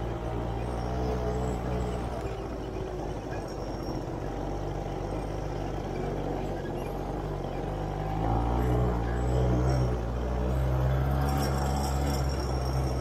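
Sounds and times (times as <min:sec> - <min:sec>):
buggy engine running: 0:00.0 - 0:13.0.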